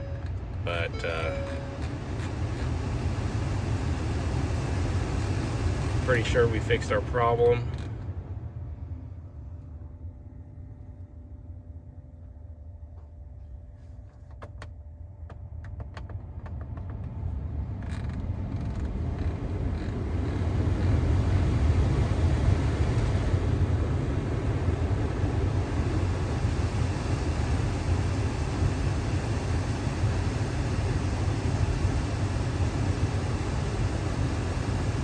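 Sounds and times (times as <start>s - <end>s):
truck engine rumble: 0.0s - 35.0s.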